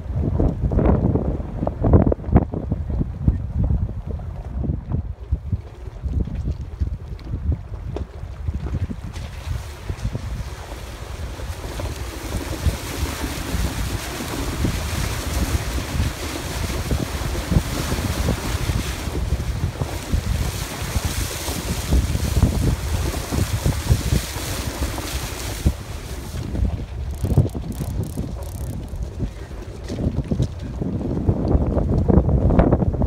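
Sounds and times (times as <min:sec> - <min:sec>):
wind noise on microphone: 0:00.0 - 0:33.0
water splashing under tyres: 0:05.3 - 0:32.2.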